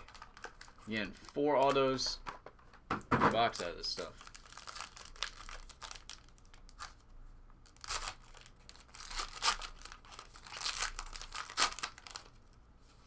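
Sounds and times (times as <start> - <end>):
plastic packaging crinkling: 0.0 - 2.4, 3.5 - 12.6.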